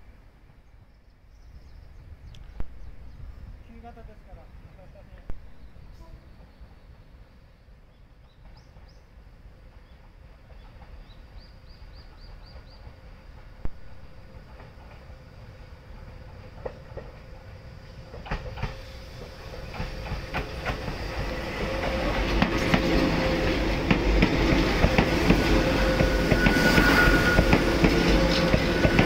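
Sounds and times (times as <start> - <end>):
electric train passing: 3.0 - 29.0.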